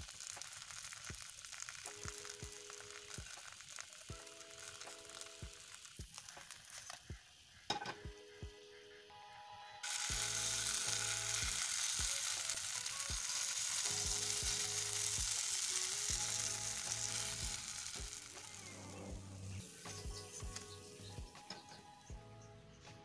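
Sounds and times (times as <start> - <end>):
batter sizzling in hot oil: 0.0 - 9.0, 9.8 - 21.8
soft background music: 0.0 - 23.0.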